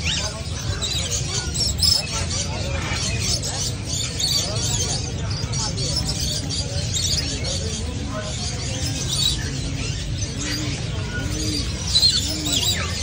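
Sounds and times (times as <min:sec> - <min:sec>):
market noise rumble: 0:00.0 - 0:13.0
small birds chirping: 0:00.0 - 0:13.0.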